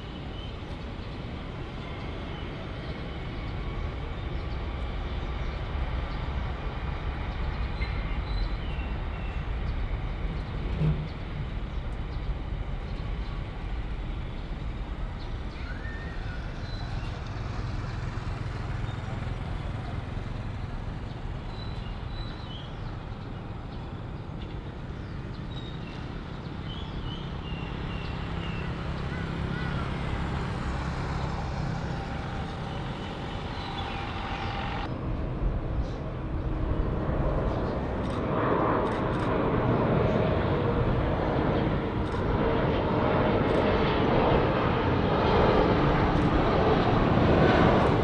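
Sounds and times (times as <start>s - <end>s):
jet engines low rumble: 0.0s - 48.0s.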